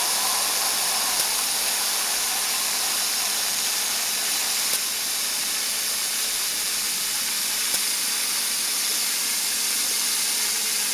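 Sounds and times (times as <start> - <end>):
steam locomotive hissing: 0.0 - 10.9.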